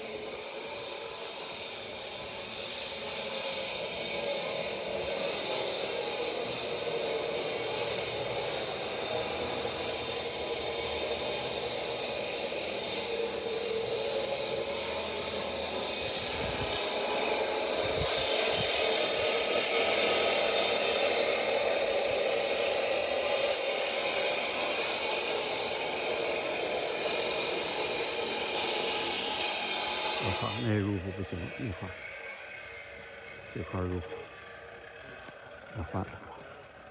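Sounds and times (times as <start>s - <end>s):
hiss: 0.0s - 36.9s
machine running: 0.0s - 36.9s.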